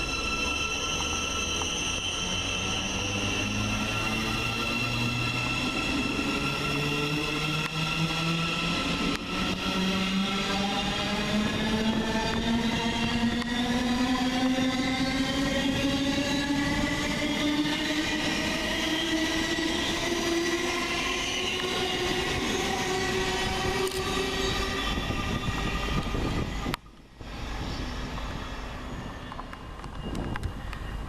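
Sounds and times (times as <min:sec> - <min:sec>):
train motors whining: 0:00.0 - 0:30.9
train rumble: 0:00.0 - 0:31.0.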